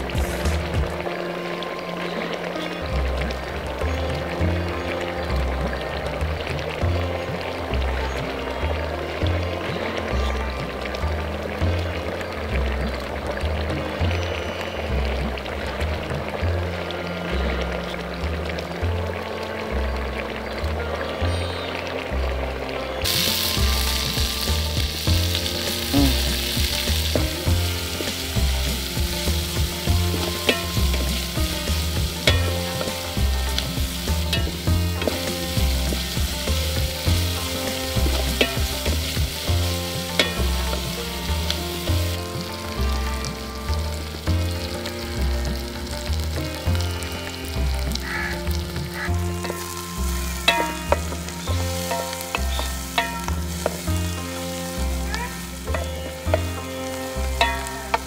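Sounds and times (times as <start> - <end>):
music with bass line: 0.0 - 58.0
onions sizzling in oil: 0.0 - 58.0.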